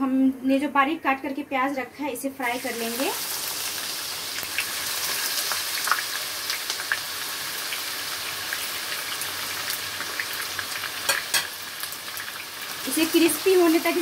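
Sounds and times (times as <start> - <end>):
onions sizzling in hot oil: 2.4 - 14.0.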